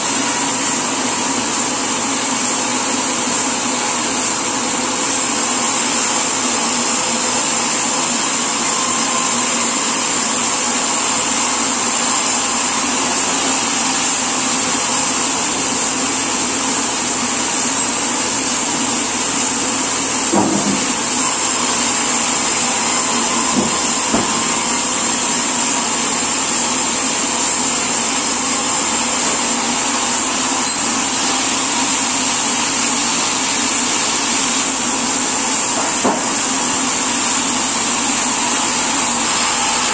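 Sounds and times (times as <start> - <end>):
sawmill machinery whirring: 0.0 - 39.9.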